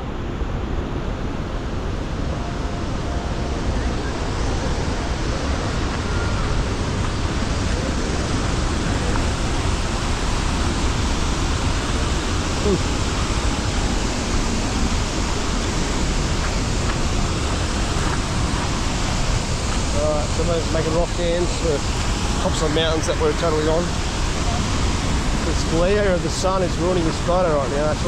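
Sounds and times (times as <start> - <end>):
waterfall rushing: 0.4 - 28.0.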